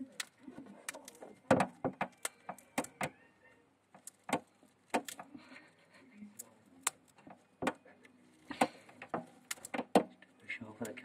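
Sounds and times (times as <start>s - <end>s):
hamster gnawing wafer cone: 0.0s - 11.0s.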